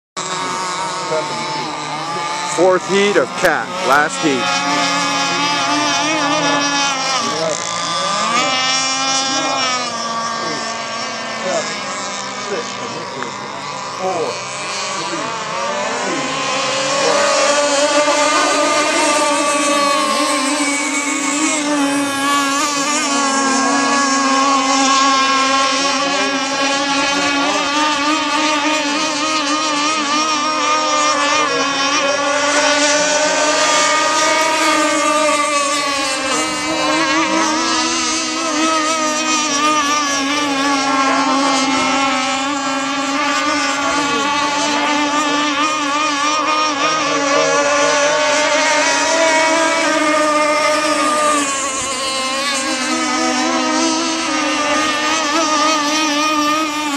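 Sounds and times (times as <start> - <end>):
model boat engines whining: 0.2 - 56.9.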